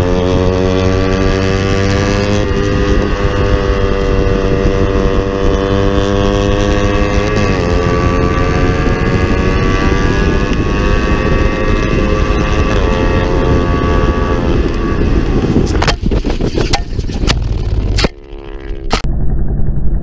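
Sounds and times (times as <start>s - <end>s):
motorcycle engine revving high: 0.0s - 19.6s
wind noise: 0.0s - 20.0s.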